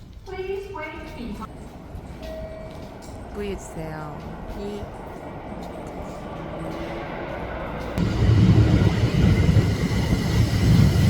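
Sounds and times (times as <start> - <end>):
subway train approaching rumble: 0.0 - 11.0.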